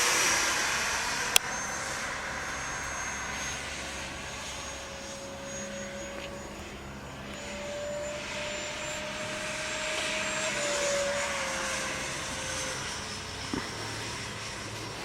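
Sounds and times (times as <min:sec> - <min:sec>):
model jet fan whine: 0:00.0 - 0:15.0.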